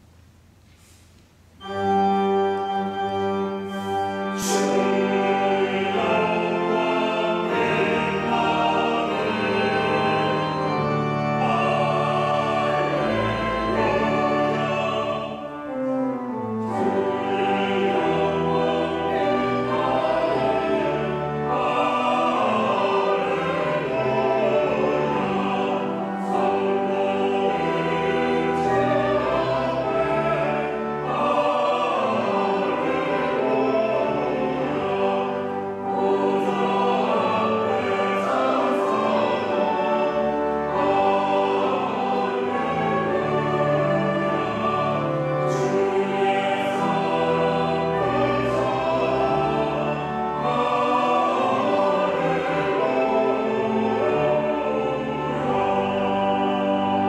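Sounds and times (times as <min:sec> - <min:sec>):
church choir singing a hymn: 0:01.6 - 0:57.0.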